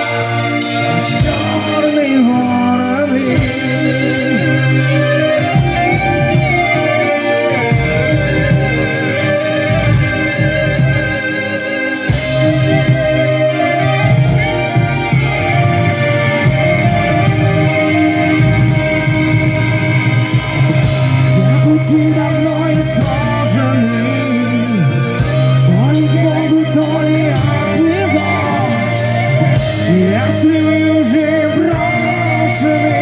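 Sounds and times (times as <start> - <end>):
heavy metal band playing: 0.0 - 33.0
steady drum beat: 0.0 - 33.0
wavering lead guitar melody: 0.0 - 33.0.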